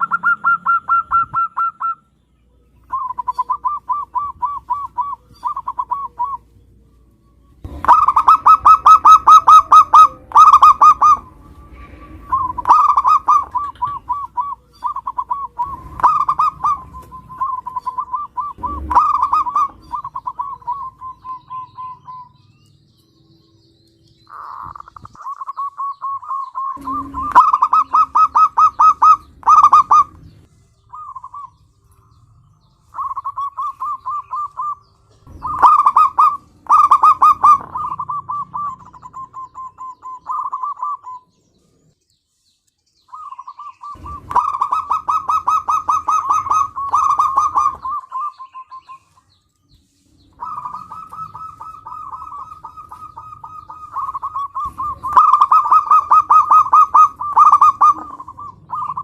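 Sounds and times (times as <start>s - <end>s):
dove cooing: 0.0s - 41.4s, 43.1s - 49.4s, 50.2s - 59.0s.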